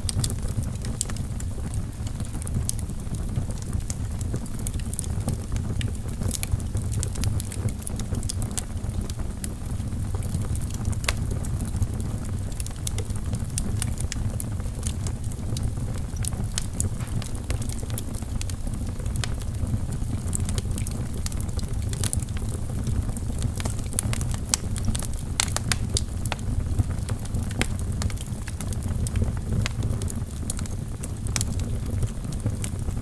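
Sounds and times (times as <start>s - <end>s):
fire rumbling: 0.0s - 33.0s
logs crackling and popping: 0.0s - 33.0s.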